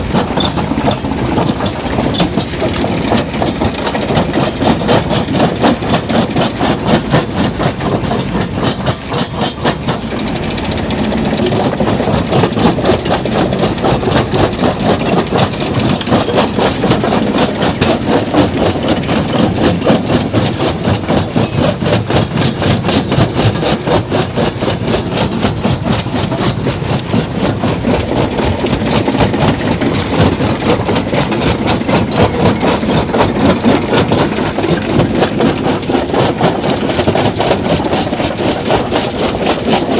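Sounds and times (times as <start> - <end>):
stone crusher clattering: 0.0 - 24.3, 24.9 - 39.9.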